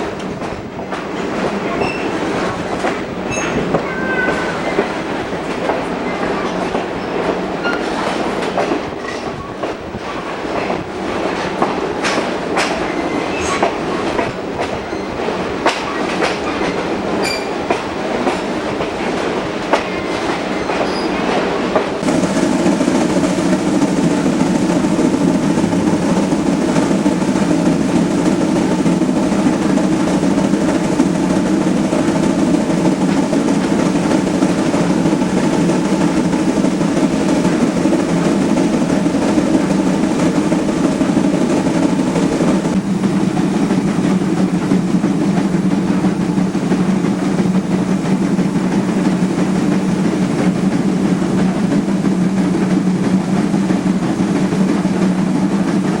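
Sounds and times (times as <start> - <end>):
steam train rumble: 0.0 - 56.0.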